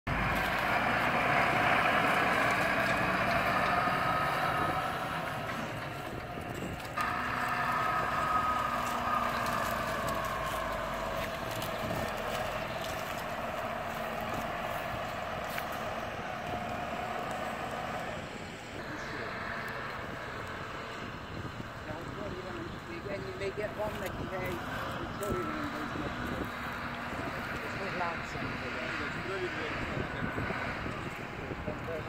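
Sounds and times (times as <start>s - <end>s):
tractor diesel engines running: 0.1s - 32.0s.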